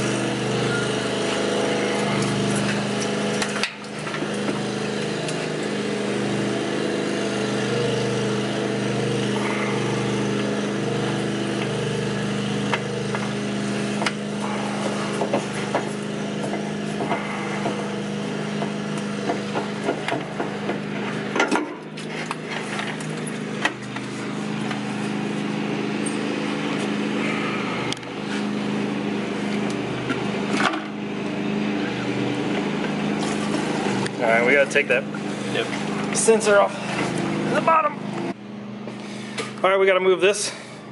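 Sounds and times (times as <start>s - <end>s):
motor humming steadily: 0.0s - 40.9s.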